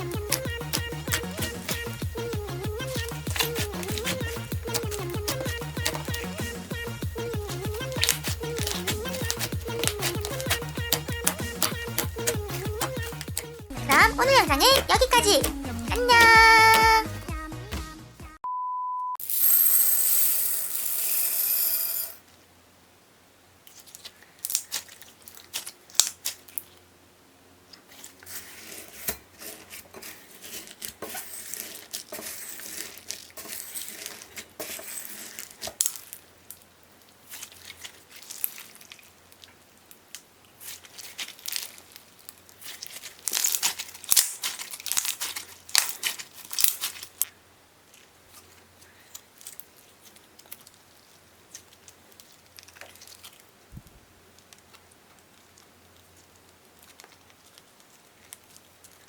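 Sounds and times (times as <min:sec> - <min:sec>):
slime crinkling and crackling: 0:00.0 - 0:16.8, 0:23.6 - 0:26.9, 0:27.7 - 0:59.0.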